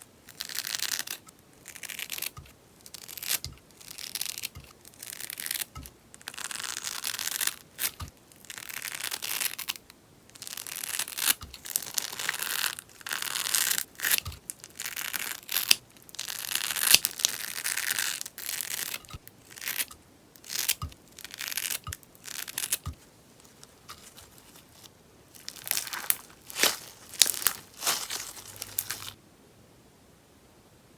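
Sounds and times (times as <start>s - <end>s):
slime crackling and popping: 0.3s - 29.2s.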